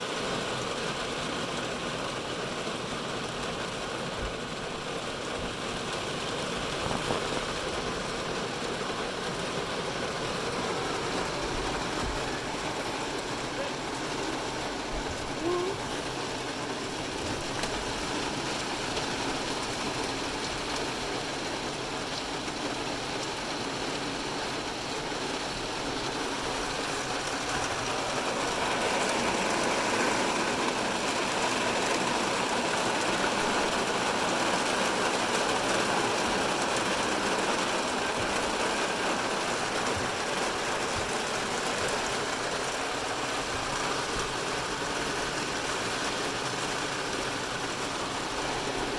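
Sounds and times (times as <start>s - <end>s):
heavy rain on car roof: 0.0s - 48.9s.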